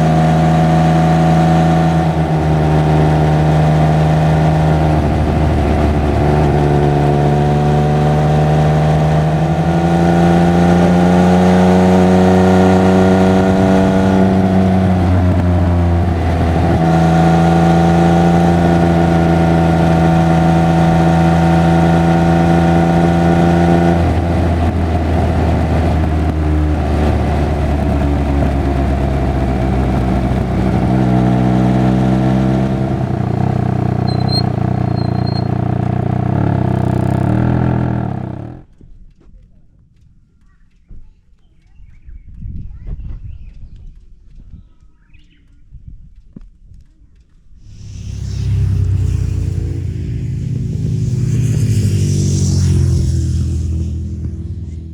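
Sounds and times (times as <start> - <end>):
motorcycle engine and exhaust: 0.0 - 39.4, 47.6 - 54.9.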